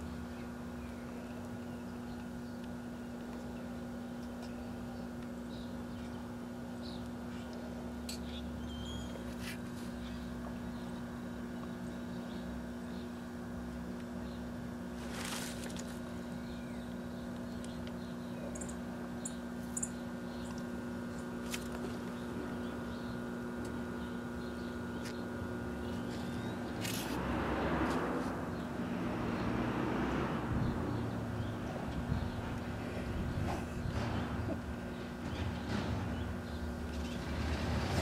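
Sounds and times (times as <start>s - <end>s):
microwave oven humming: 0.0s - 27.2s, 28.1s - 38.0s.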